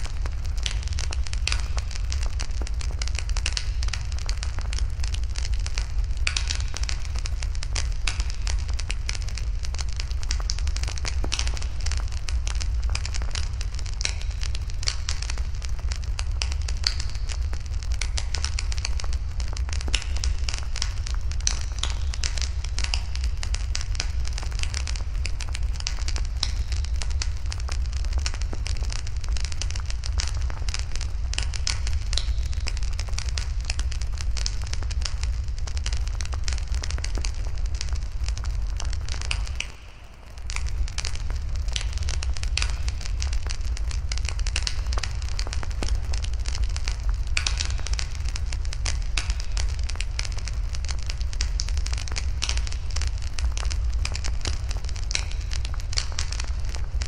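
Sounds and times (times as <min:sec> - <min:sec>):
fire pops and snaps: 0:00.0 - 0:57.0
wood fire crackling: 0:00.0 - 0:57.0.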